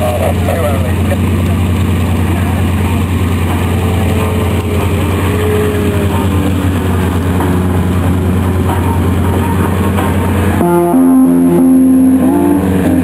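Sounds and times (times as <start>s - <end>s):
propeller aircraft engines droning: 0.0s - 13.0s
steady low rumble: 0.0s - 13.0s.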